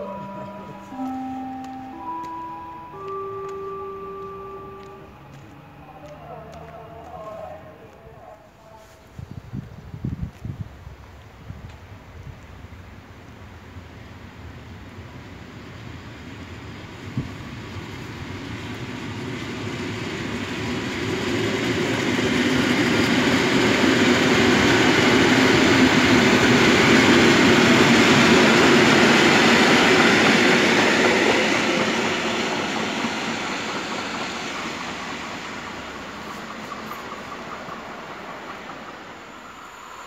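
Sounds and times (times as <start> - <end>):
electric train passing: 0.0 - 40.0.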